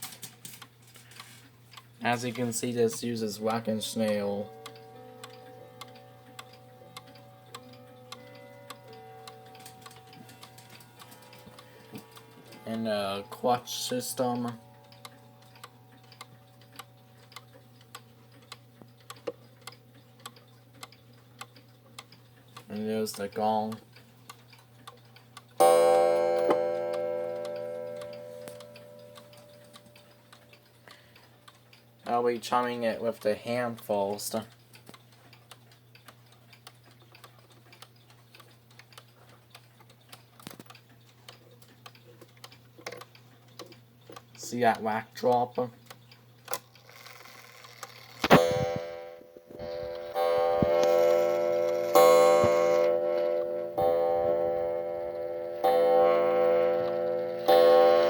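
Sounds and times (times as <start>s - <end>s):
pendulum clock ticking: 1.6s - 58.0s.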